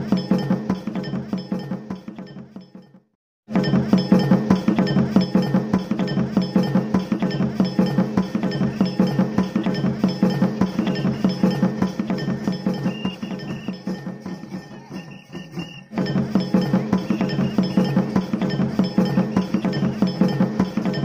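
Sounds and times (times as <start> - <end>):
fast folk percussion music: 0.0 - 2.6, 3.5 - 21.0.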